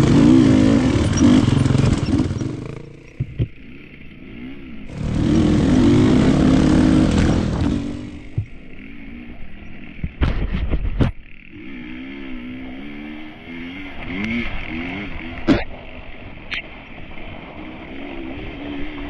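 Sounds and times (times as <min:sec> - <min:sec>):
dirt bike engine revving: 0:00.0 - 0:10.4, 0:11.2 - 0:15.9, 0:17.4 - 0:19.0.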